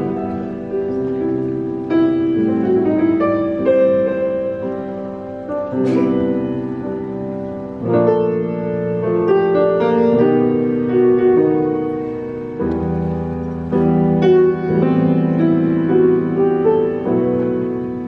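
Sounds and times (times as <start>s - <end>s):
grand piano chords: 0.0s - 18.0s.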